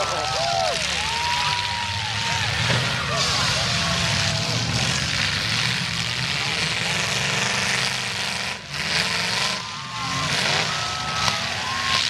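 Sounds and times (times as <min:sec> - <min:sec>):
car engines revving: 0:00.0 - 0:12.0
cars crashing bang: 0:01.6 - 0:12.0.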